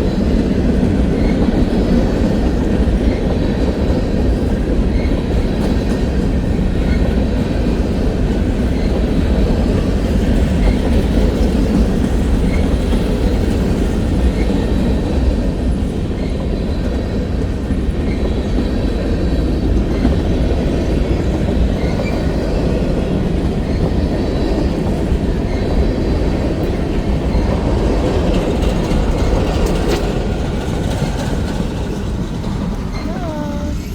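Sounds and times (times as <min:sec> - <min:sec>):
freight train wheels rumbling on rail: 0:00.0 - 0:33.9.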